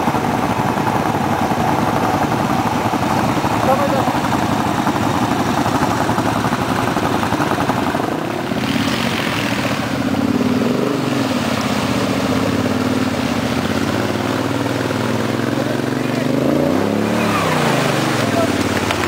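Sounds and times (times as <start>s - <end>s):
quad bike engine revving: 0.0s - 19.0s
quad bike engines running: 0.0s - 19.0s
water splashing: 0.0s - 19.0s.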